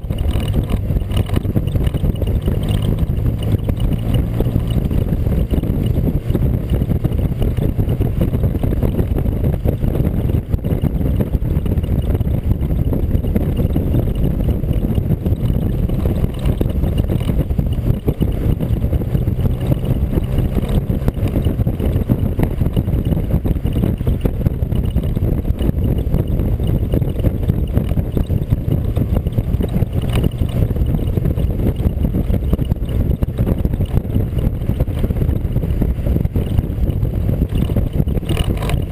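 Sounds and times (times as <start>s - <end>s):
vehicle engine drone: 0.0s - 38.9s
wind rush: 0.0s - 38.9s.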